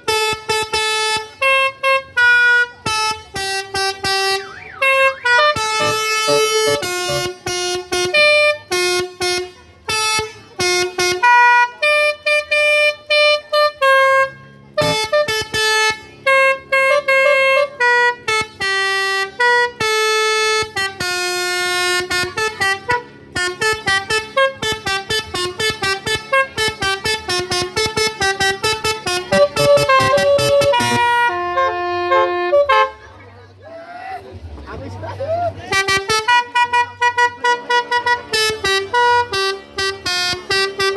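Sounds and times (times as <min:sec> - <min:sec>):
musical car horn melody: 0:00.0 - 0:33.3, 0:35.6 - 0:40.9.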